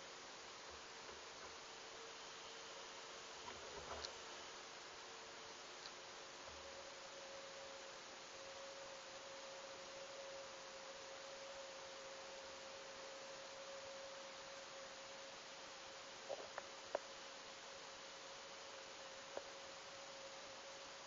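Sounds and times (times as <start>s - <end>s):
constant hum tone: 0.0s - 21.0s
faint steady hiss: 0.0s - 21.0s.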